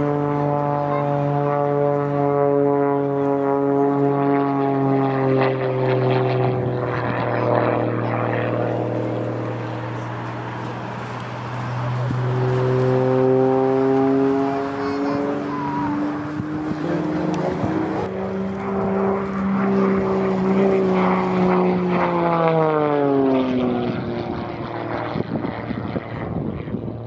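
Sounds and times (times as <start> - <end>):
propeller plane engine droning: 0.0 - 27.0.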